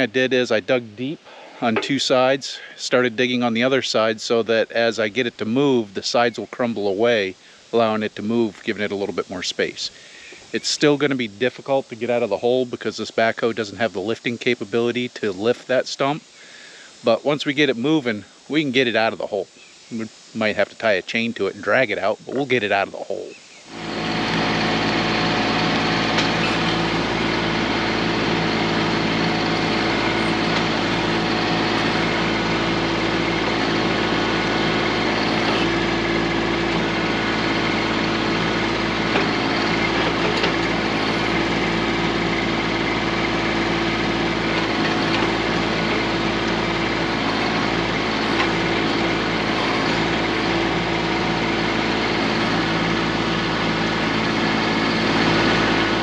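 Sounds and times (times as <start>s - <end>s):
diesel tractor engine running: 0.0s - 13.0s, 23.7s - 56.0s.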